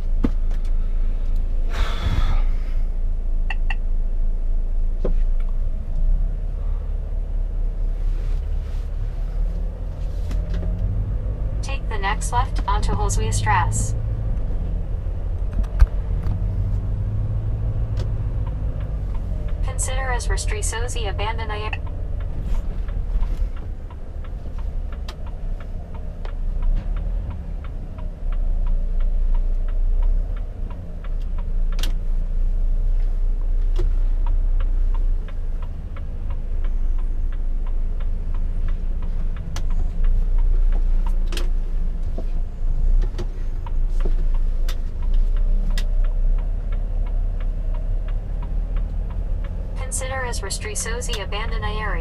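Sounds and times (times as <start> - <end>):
truck diesel engine rumbling: 0.0 - 52.0.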